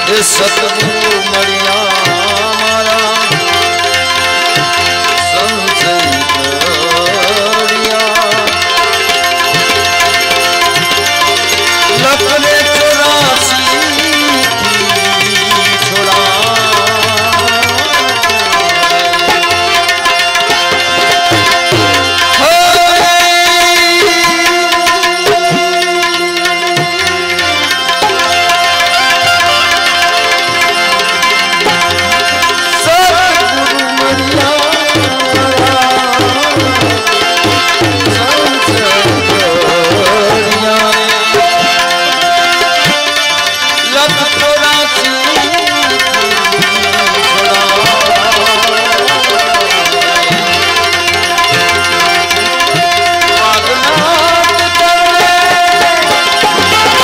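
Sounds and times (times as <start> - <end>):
melody instrument long notes: 0.0 - 57.0
tabla beating a rhythm: 0.0 - 57.0.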